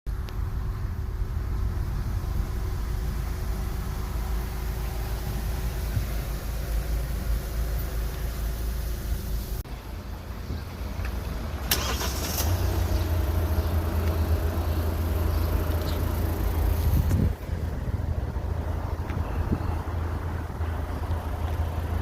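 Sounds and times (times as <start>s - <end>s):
car engine rumbling: 0.1s - 22.0s.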